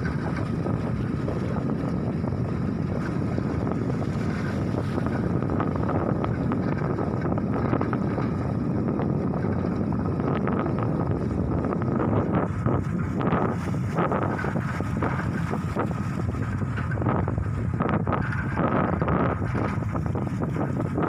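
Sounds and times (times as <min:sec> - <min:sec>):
diesel machinery rumbling: 0:00.0 - 0:21.0
wind buffeting microphone: 0:00.0 - 0:21.0.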